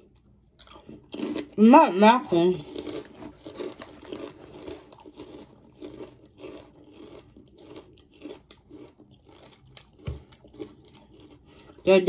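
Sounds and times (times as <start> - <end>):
chewing crunchy potato chips: 0.0 - 12.0.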